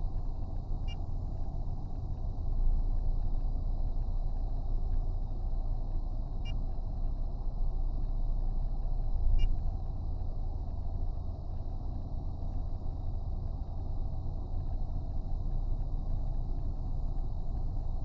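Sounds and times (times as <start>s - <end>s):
vehicle engine rumble from inside: 0.0s - 18.0s.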